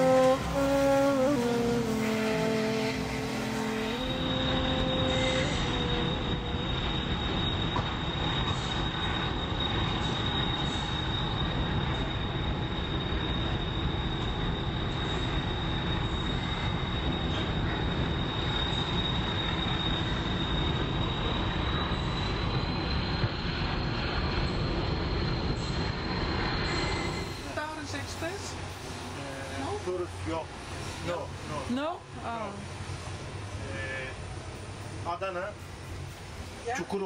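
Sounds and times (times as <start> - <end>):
high-pitched whine: 0.0 - 32.4
train wheels rumbling on rails: 0.0 - 37.0.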